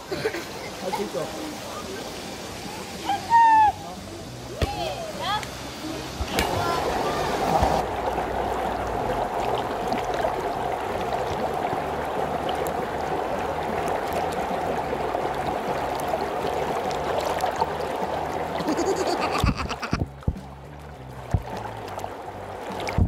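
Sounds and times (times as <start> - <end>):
stream water flowing: 0.0 - 23.0.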